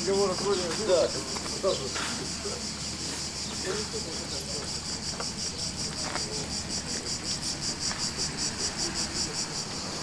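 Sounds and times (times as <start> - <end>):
insect chirping: 0.0 - 10.0.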